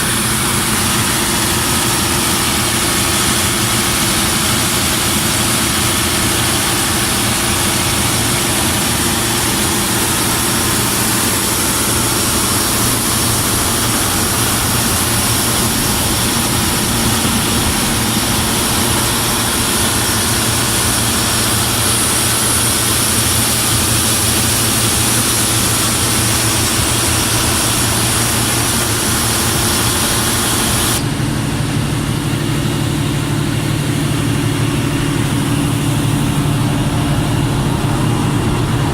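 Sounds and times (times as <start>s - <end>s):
diesel generator droning with hiss: 0.0s - 38.9s.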